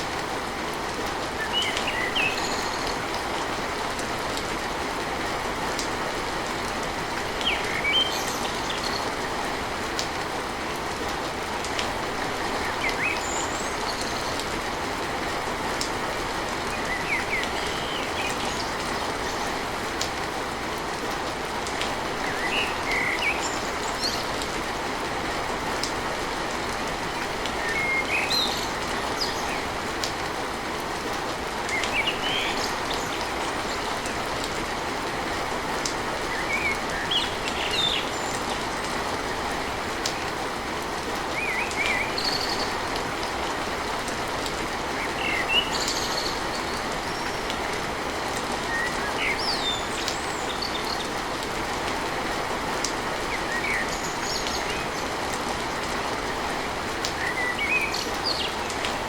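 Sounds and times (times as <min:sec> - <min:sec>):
rain drumming on a tin roof: 0:00.0 - 0:59.0.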